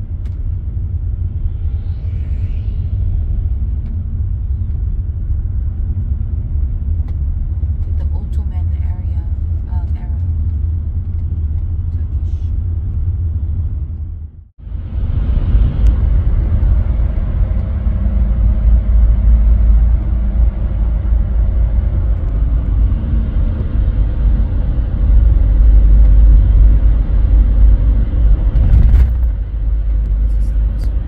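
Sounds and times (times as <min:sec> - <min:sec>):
car road rumble from inside: 0:03.3 - 0:31.0.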